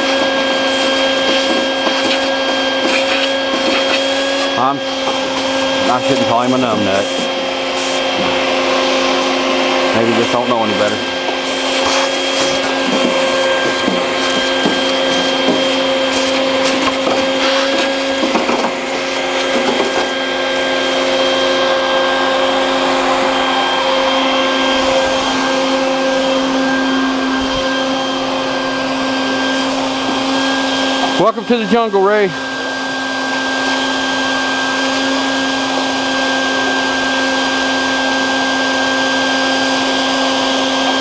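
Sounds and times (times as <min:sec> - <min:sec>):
shop vacuum running: 0:00.0 - 0:41.0.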